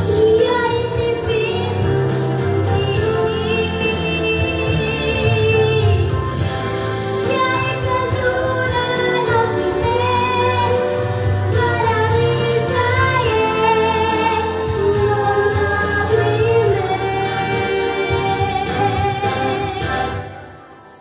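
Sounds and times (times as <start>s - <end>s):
girl singing into a microphone: 0.0s - 6.2s, 7.2s - 19.9s
instrumental accompaniment: 0.0s - 21.0s.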